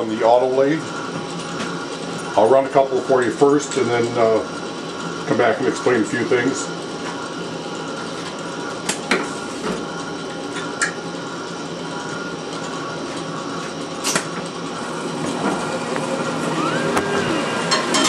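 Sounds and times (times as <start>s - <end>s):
machine hum with held tones: 0.0s - 18.0s.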